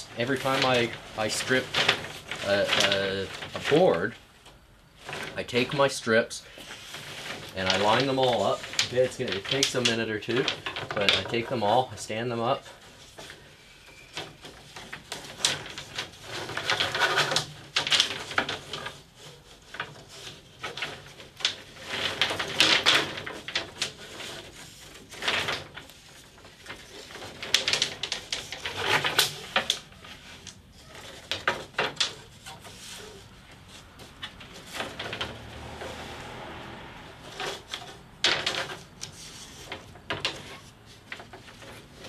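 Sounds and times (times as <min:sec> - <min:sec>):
wood scraping on steel: 0:00.0 - 0:42.0
wooden strips clattering and knocking: 0:00.0 - 0:42.0.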